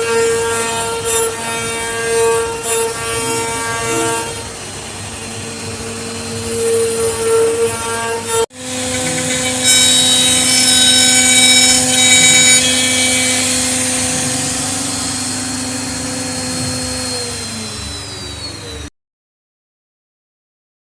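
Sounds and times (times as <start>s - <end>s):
power tool motor whine: 0.0s - 18.9s.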